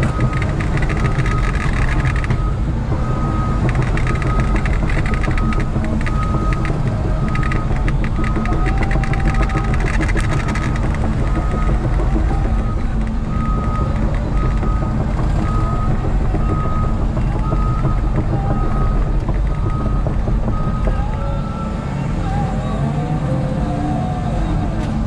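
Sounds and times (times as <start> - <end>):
travel alarm beeping: 0.0 - 22.4
excavator diesel engine running: 0.0 - 25.0.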